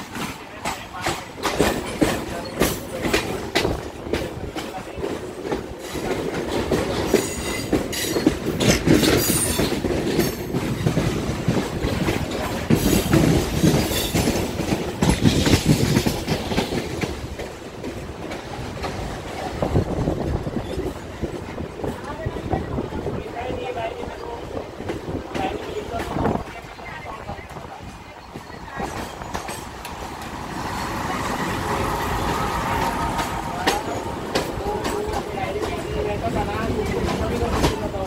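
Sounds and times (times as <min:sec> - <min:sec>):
wheels clacking over rail joints: 0:00.0 - 0:22.3, 0:27.8 - 0:38.0
train rumble: 0:00.0 - 0:38.0.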